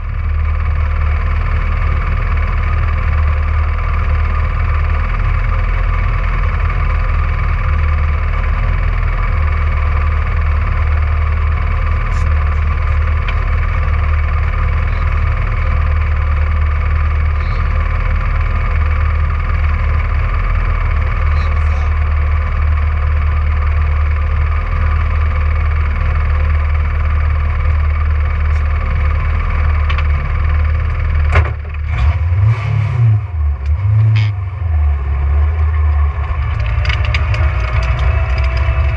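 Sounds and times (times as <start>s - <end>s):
rally car engine running: 0.0s - 38.9s.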